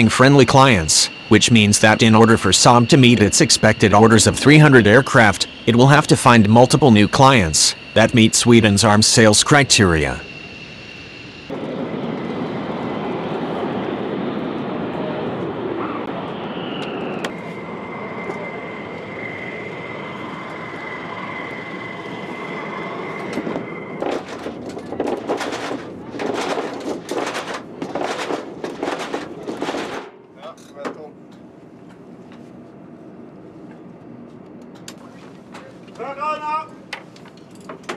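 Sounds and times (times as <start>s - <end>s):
turbine machinery rumble and whine: 0.0s - 37.9s.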